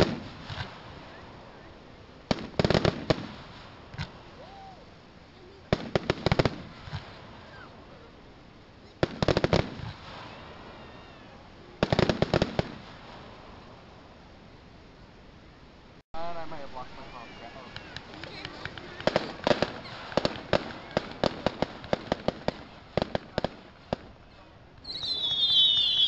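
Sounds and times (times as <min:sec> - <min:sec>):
fireworks crackling: 0:00.0 - 0:15.0, 0:15.6 - 0:26.0.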